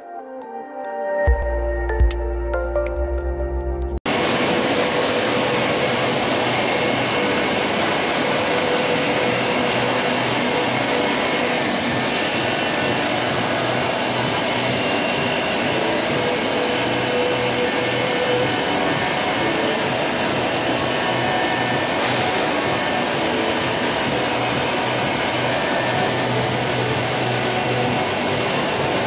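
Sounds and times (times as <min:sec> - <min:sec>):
machinery whirring and hissing: 0:04.1 - 0:29.0.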